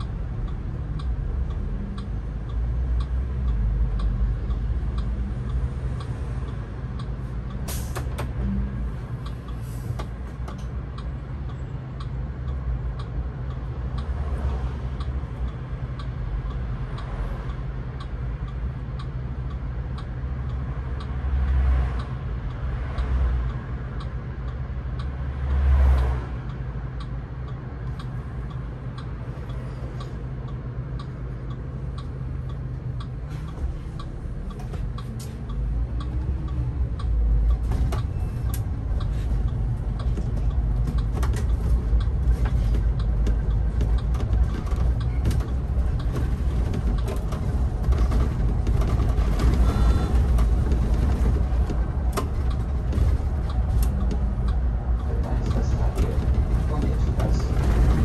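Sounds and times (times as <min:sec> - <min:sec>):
turn signal relay ticking: 0:00.0 - 0:57.8
bus engine running: 0:00.0 - 0:58.0.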